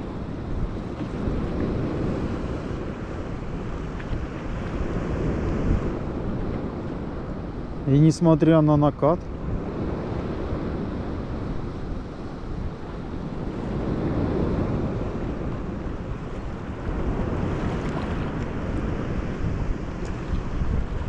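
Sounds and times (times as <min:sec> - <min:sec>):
wind buffeting microphone: 0:00.0 - 0:08.4, 0:09.0 - 0:21.0
sea surf washing ashore: 0:00.0 - 0:21.0.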